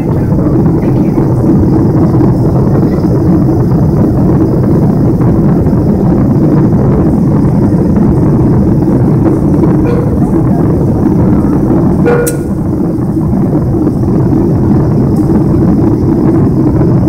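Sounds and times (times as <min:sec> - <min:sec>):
air rushing past fuselage: 0:00.0 - 0:17.0
jet engines roaring in cabin: 0:00.0 - 0:17.0.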